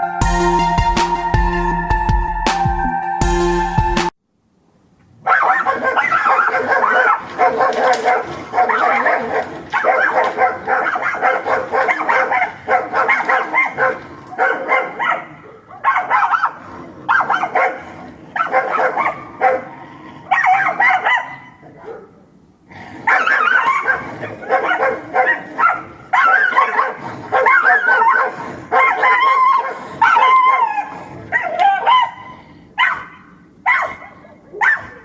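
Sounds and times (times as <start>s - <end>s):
dogs snarling and barking: 5.3s - 35.0s.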